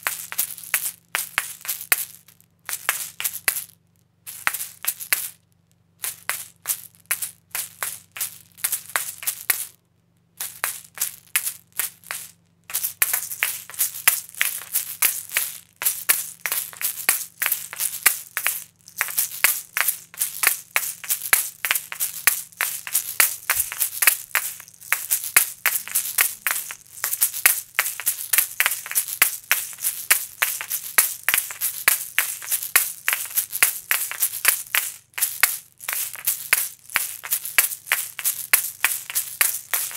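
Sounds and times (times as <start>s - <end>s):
seed shakers rattling and clacking: 0.0s - 5.4s, 6.0s - 9.8s, 10.4s - 39.9s.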